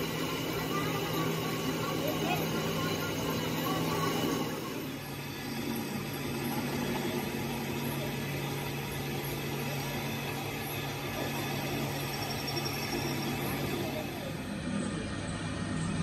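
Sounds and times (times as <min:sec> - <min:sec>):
machine motor humming: 0:00.0 - 0:16.0.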